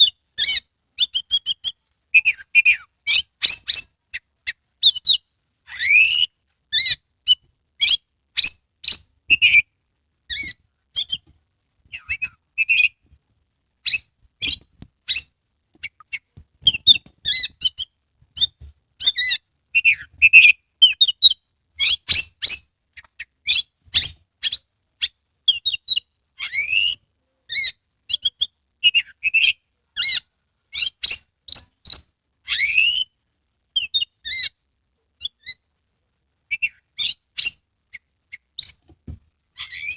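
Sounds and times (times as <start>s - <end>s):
songbird whistling and chirping: 0.0s - 9.7s, 10.3s - 11.2s, 11.9s - 13.0s, 13.8s - 33.1s, 33.8s - 34.6s, 35.2s - 35.6s, 36.5s - 38.9s, 39.6s - 39.9s.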